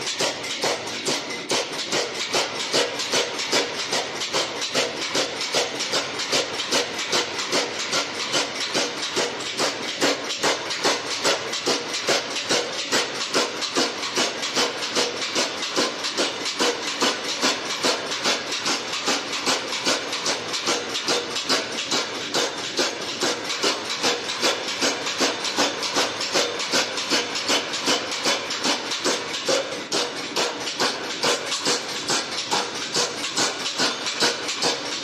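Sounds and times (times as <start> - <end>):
power hammer striking hot steel: 0.0 - 35.0.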